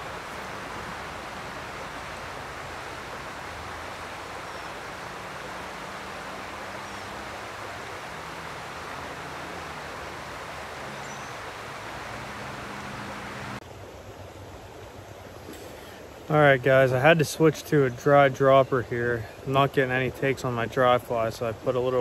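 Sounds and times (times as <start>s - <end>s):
stream water flowing: 0.0s - 22.0s.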